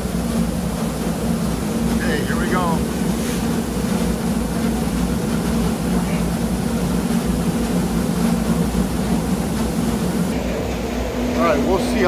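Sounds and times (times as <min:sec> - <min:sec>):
rice milling machine running: 0:00.0 - 0:12.0.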